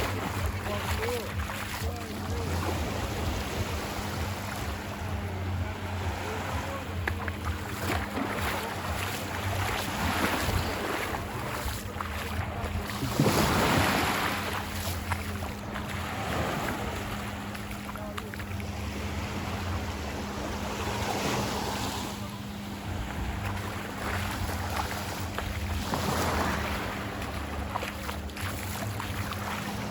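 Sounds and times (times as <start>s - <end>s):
ocean surf washing ashore: 0.0s - 29.9s.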